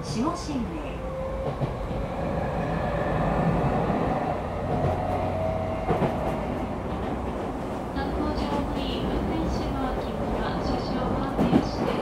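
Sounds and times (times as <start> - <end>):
wheels rumbling on rail: 0.0 - 12.0
rail clacks: 1.3 - 12.0.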